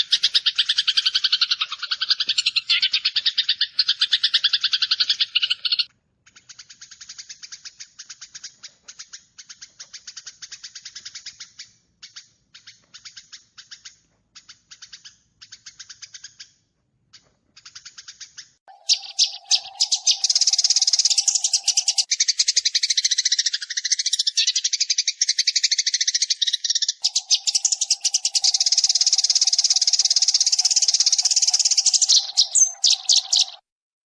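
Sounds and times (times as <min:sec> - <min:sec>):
sparrows chirping: 0:00.0 - 0:33.7.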